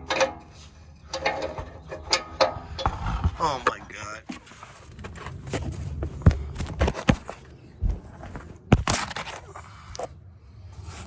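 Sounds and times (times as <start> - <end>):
knocks clicks and scrapes of parts: 0.0 - 10.2.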